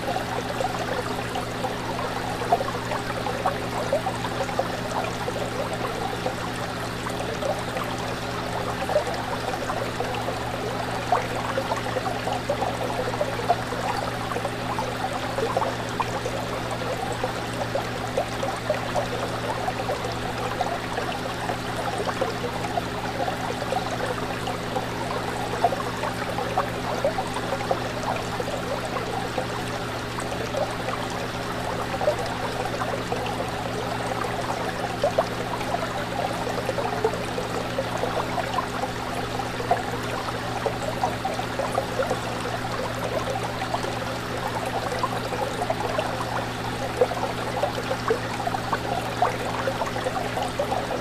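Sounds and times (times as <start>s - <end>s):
fish tank water bubbling: 0.0s - 51.0s
small water splashes: 0.0s - 51.0s.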